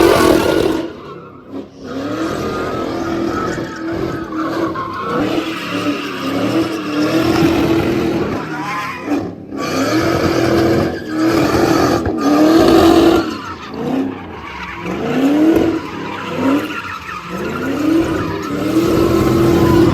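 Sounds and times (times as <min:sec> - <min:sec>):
car engine at high revs: 0:00.0 - 0:19.9
tyres squealing: 0:00.0 - 0:19.9.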